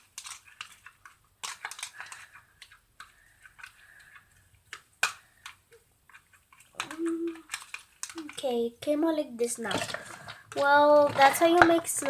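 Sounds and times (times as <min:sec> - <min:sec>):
pen stirring sticky slime: 0:00.0 - 0:08.6, 0:09.6 - 0:12.0.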